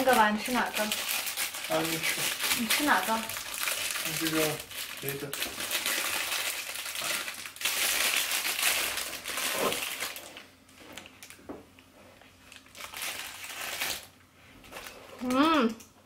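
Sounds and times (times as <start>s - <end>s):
cellophane bag crinkling: 0.0s - 11.4s, 12.4s - 15.4s.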